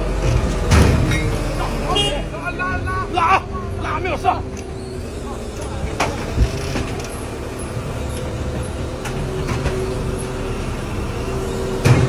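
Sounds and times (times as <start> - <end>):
heavy vehicle engine rumbling: 0.0 - 12.0.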